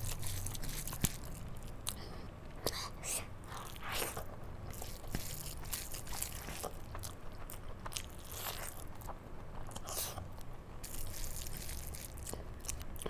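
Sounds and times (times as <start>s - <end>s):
fingers squishing soft rice: 0.0s - 2.0s, 3.5s - 13.0s
wet chewing and lip smacking: 0.0s - 13.0s.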